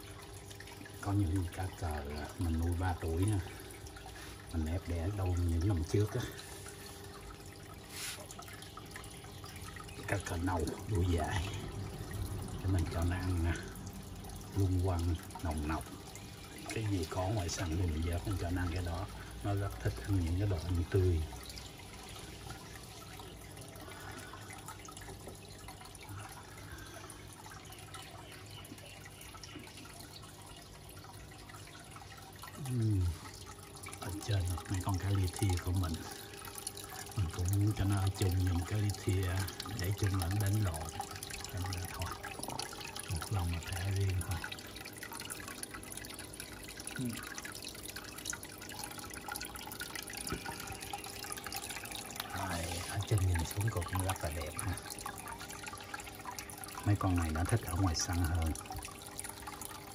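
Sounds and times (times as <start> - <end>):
water trickling and dripping: 0.0 - 59.9.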